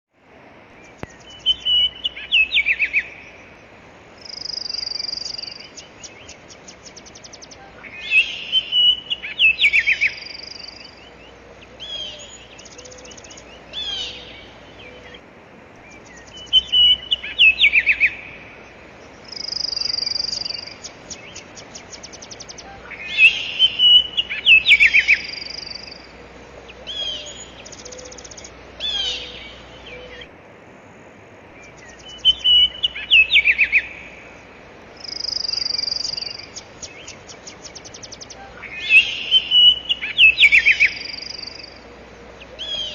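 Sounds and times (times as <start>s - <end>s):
faint steady hiss: 0.1s - 42.9s
birds chirping and trilling: 0.6s - 30.4s, 31.5s - 42.9s.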